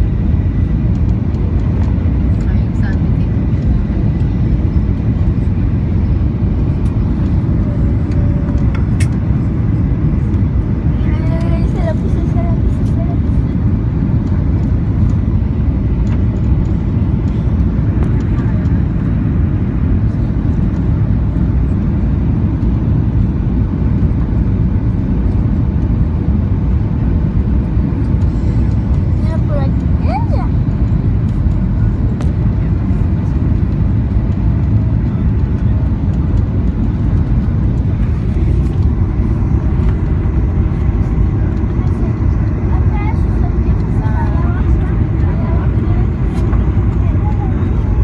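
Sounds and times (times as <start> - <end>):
airliner cabin engine roar: 0.0 - 48.0.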